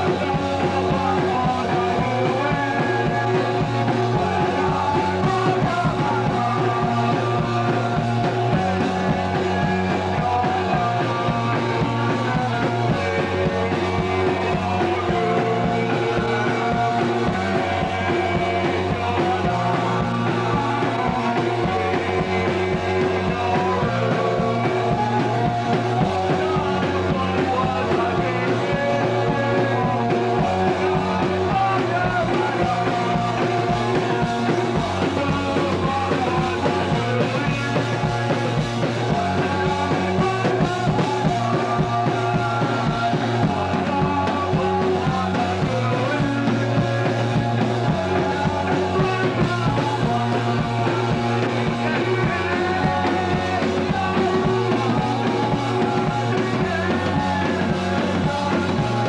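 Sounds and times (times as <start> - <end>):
rock music: 0.0 - 59.0.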